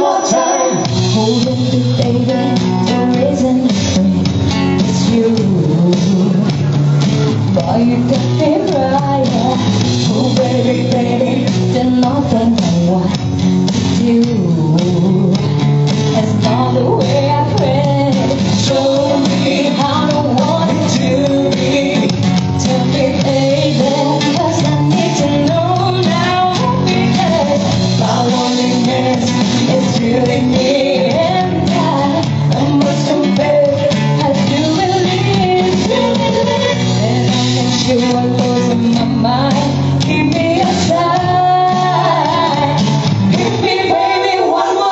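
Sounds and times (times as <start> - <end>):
live band instrumental music: 0.0 - 44.9.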